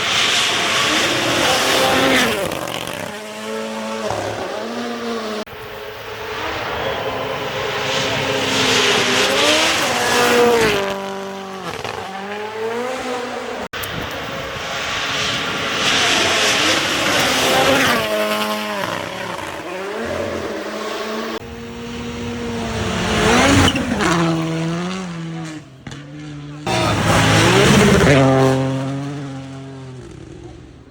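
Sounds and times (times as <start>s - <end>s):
rally cars passing at full throttle: 0.0s - 30.9s.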